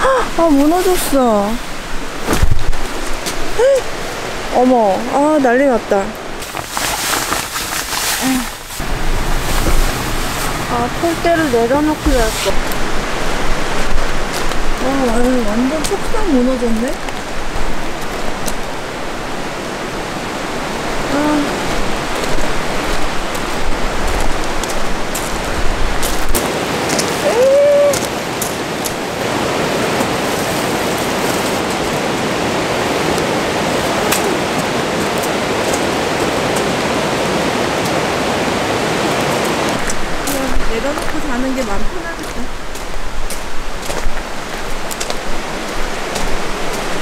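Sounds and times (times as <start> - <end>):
heavy rain: 0.0 - 47.0.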